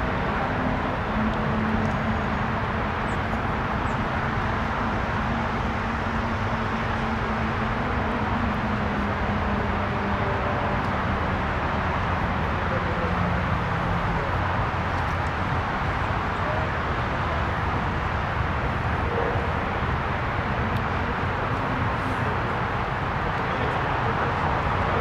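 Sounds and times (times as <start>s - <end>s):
outdoor rumble with hiss: 0.0s - 25.0s.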